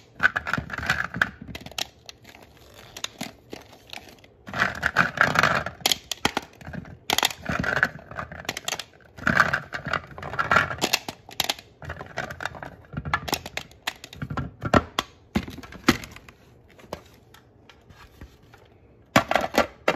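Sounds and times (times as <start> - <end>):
plastic toys clicking and clattering: 0.0 - 17.5, 19.1 - 19.9.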